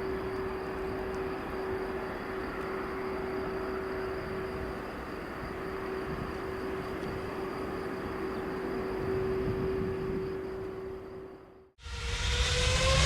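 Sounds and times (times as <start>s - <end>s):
jet engine whine: 0.0s - 13.0s
jet engines rumbling: 0.0s - 13.0s.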